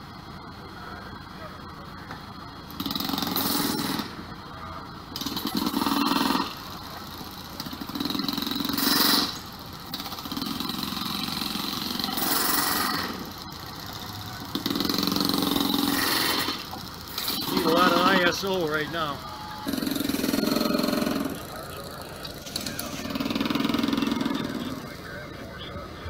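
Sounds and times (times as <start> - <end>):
track-repair machinery: 0.0 - 26.0.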